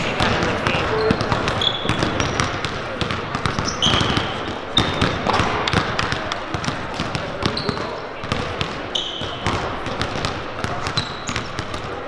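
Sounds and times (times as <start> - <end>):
sneaker squeaks: 0.0 - 5.9, 6.6 - 11.9
basketballs bouncing on wooden floor: 0.0 - 12.0.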